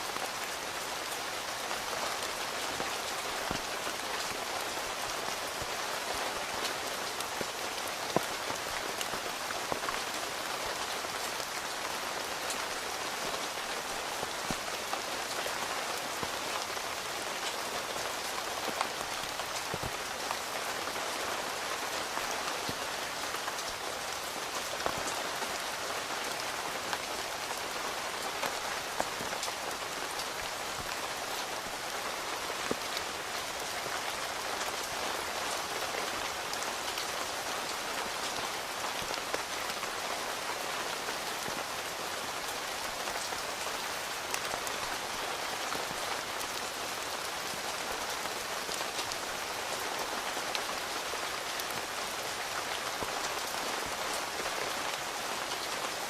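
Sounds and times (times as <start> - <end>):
rain on a tent: 0.0 - 56.0.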